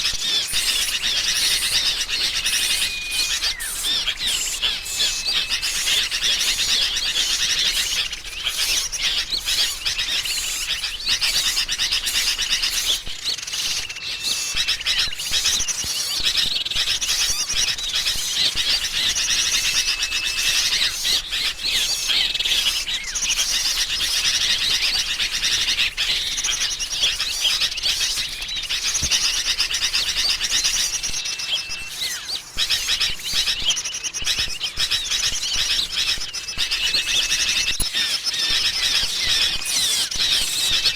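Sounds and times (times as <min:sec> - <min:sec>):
bulbul calls chorus: 0:00.0 - 0:40.9
small songbirds chirping: 0:00.0 - 0:40.9.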